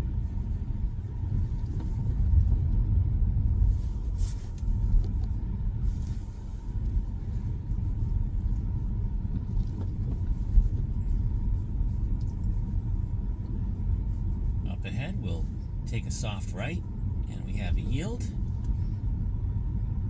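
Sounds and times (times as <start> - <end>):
faint steady whine: 0.0 - 20.0
road and tyre rumble: 0.0 - 20.0.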